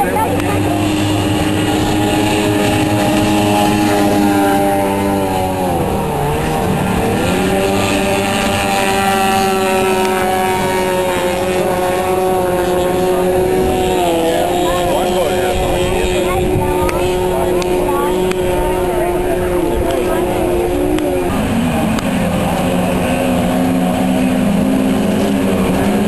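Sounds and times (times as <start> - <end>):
race boat engines whining: 0.0 - 26.0.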